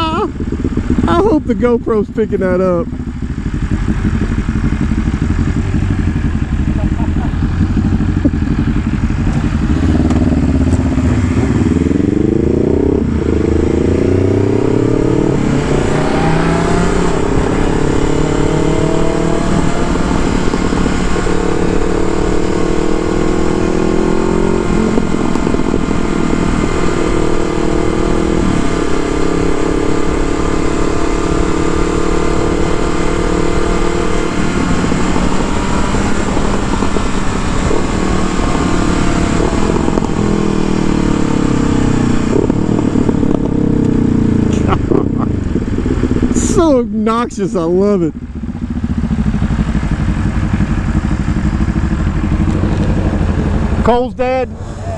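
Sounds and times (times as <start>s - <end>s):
engine accelerating with loud exhaust: 0.0s - 54.9s
wind noise: 0.0s - 54.9s.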